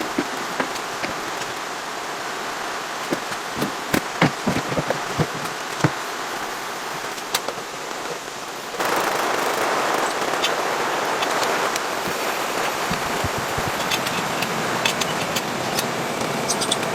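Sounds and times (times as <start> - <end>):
sharp raindrop impacts: 0.0 - 15.0
steady rain: 0.0 - 16.9.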